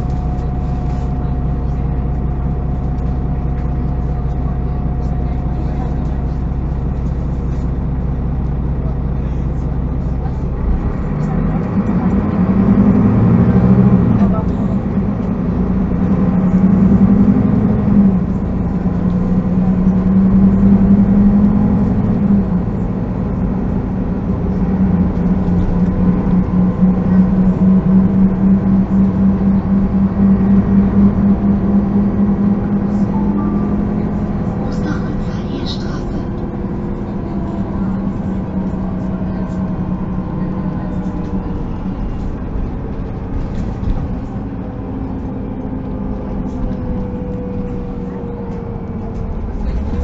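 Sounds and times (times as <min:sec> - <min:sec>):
bus engine humming: 0:00.0 - 0:50.0
low road rumble: 0:00.0 - 0:50.0.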